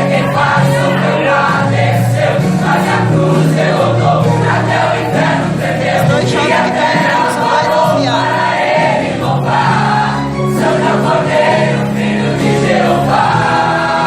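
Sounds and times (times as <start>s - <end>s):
choir singing a hymn: 0.0s - 14.0s
musical accompaniment: 0.0s - 14.0s.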